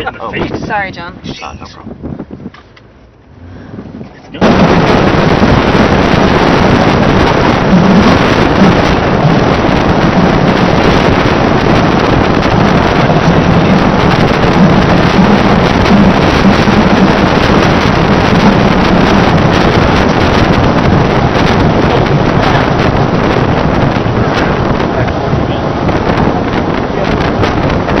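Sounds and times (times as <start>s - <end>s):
road noise: 0.0s - 28.0s
vehicle engine: 0.0s - 28.0s
wind blasting microphone: 0.0s - 28.0s.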